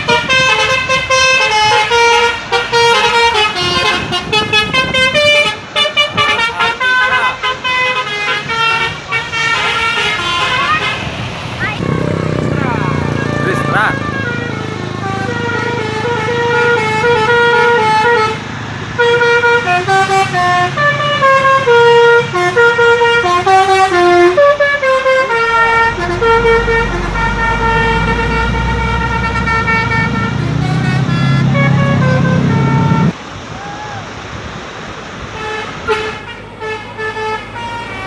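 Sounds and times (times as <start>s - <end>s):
bus horn playing a melody: 0.0s - 11.1s, 11.8s - 33.2s, 35.3s - 38.0s
bus engine rumble: 0.0s - 38.0s.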